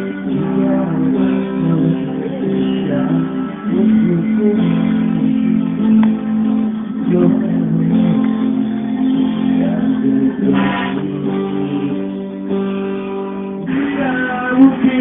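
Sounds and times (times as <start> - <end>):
live band guitar instrumental: 0.0 - 15.0.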